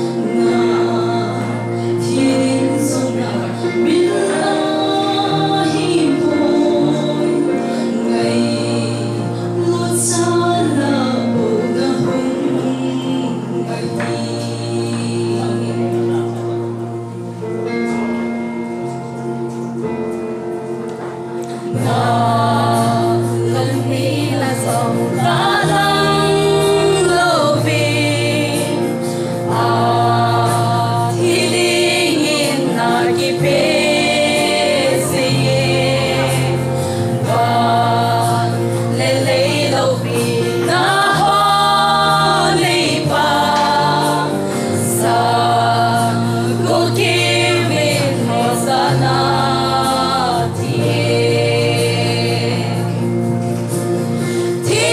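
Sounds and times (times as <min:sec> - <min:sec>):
women singing gospel song: 0:00.0 - 0:16.4, 0:21.5 - 0:54.9.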